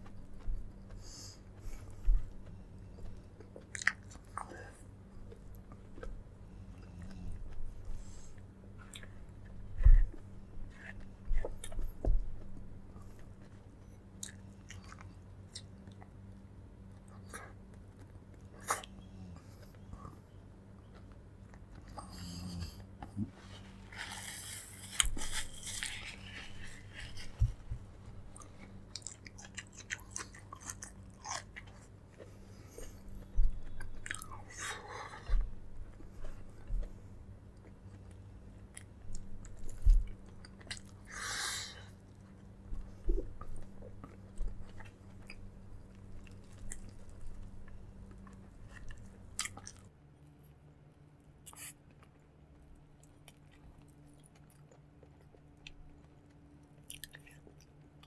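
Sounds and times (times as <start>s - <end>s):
person chewing: 0.0s - 49.9s, 51.4s - 58.0s
steady low hum: 0.0s - 58.0s.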